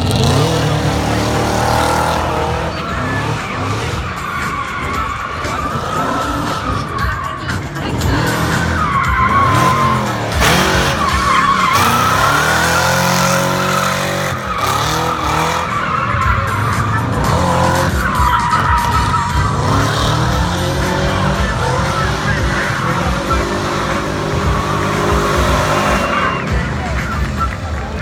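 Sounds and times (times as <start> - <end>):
car engine revving hard: 0.0 - 28.0
tyres squealing: 0.0 - 28.0.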